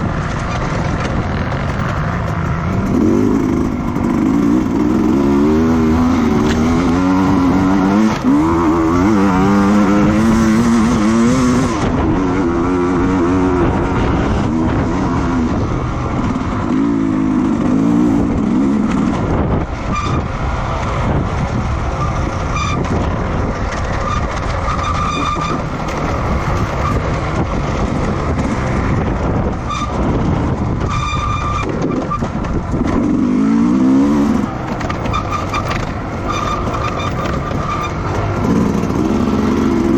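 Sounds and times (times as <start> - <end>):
racing motorcycle engines revving: 0.0 - 39.9.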